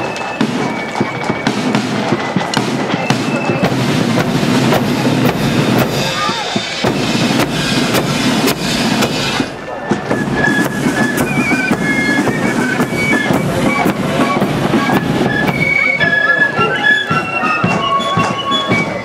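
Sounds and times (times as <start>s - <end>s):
flutes playing in unison: 0.0s - 19.0s
marching drum beats: 0.0s - 19.0s.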